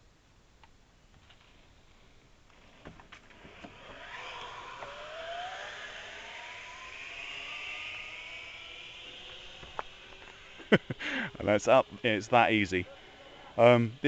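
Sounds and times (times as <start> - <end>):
zipline pulleys whirring: 1.3 - 14.0.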